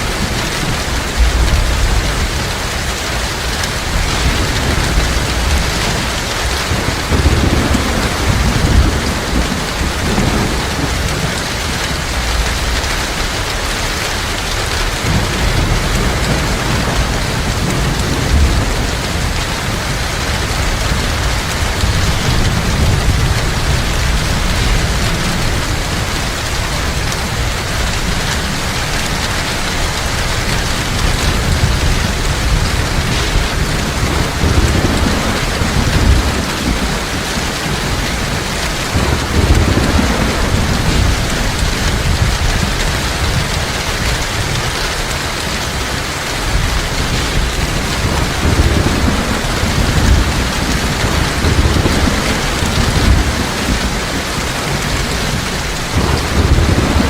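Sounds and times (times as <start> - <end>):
heavy rain falling: 0.0 - 57.0
low rumbles of thunder: 0.0 - 57.0.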